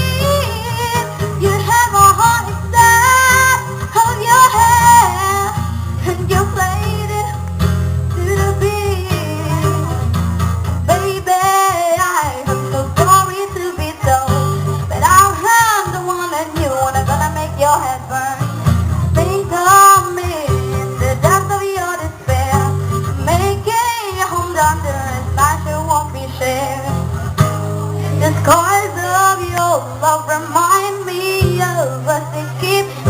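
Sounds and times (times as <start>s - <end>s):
song with vocals and guitar: 0.0s - 33.0s.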